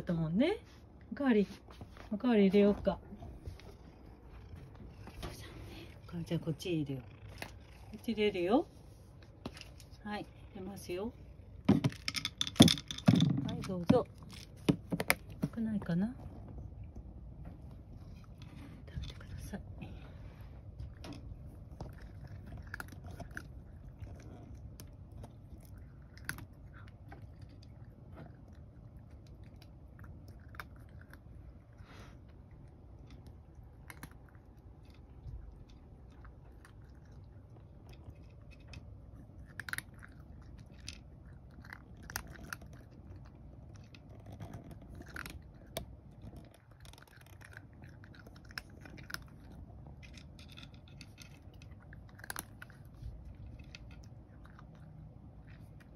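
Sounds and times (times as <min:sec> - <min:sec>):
cat chewing food: 0:03.0 - 0:13.1, 0:16.2 - 0:55.9.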